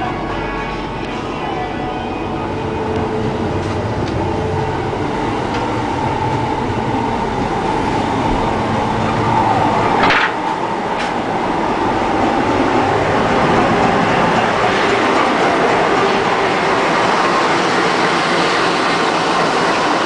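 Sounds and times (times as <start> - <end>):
train rumbling and rattling on track: 0.0 - 20.0.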